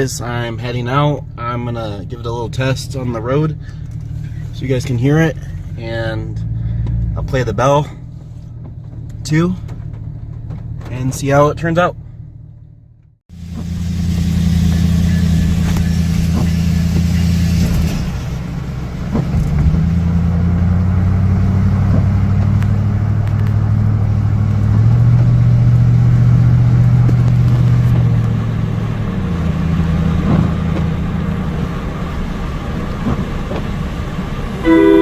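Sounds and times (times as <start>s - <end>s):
road noise: 0.0s - 35.0s
truck engine running: 0.0s - 35.0s.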